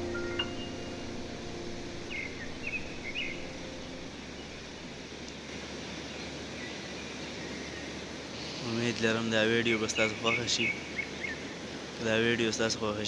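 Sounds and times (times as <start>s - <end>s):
flowing water: 0.0s - 13.0s
wind: 0.0s - 13.0s.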